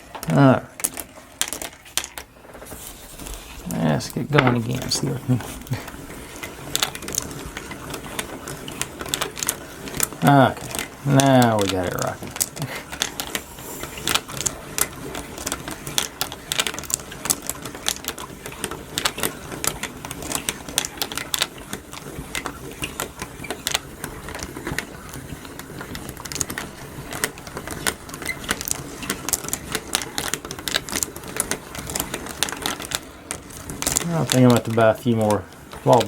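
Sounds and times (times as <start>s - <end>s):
ball bearings clacking on wooden track: 0.0s - 36.0s.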